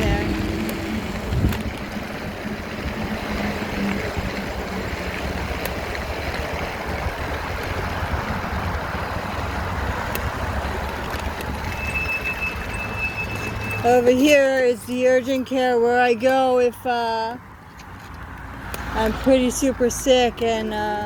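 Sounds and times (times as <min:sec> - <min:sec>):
vehicle running rumble: 0:00.0 - 0:21.0.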